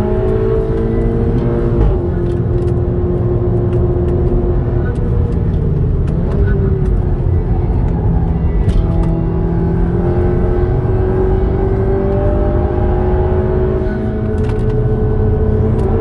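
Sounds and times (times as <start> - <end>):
car engine accelerating: 0.0 - 16.0
tyre and road rumble: 0.0 - 16.0.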